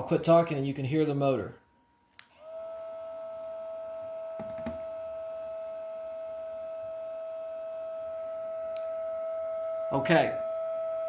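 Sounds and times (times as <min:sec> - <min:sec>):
fan motor whine: 0:01.0 - 0:11.0.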